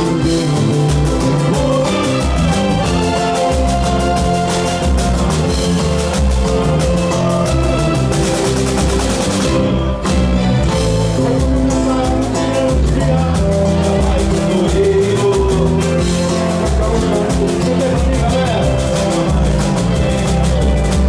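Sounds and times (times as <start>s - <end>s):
rhythmic instrumental music: 0.0s - 21.0s.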